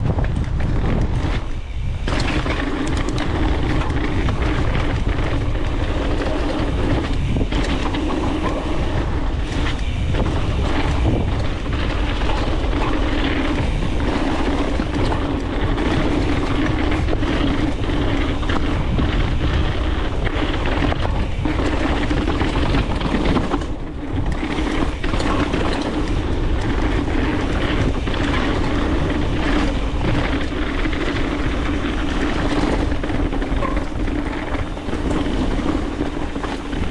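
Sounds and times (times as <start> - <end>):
bike tyres rumbling over dirt: 0.0 - 36.9
wind rushing over microphone: 0.0 - 36.9.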